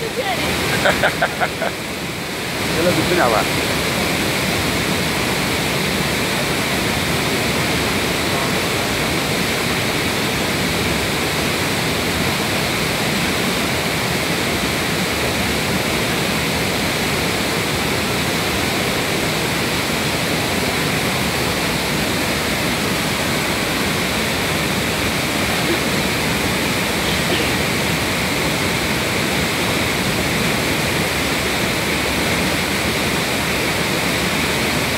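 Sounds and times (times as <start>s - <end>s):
waterfall and rushing stream: 0.0s - 34.9s.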